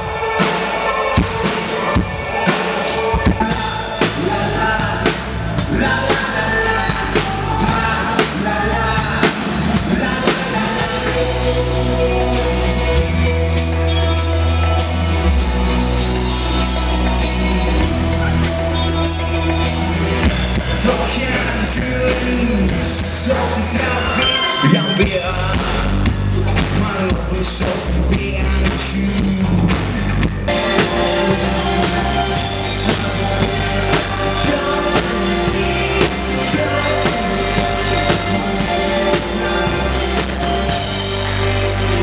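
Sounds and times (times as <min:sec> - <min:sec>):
person singing: 0:00.0 - 0:29.6, 0:30.5 - 0:42.0
bass guitar: 0:00.0 - 0:42.0
drum kit: 0:00.0 - 0:42.0
electric guitars: 0:00.0 - 0:42.0.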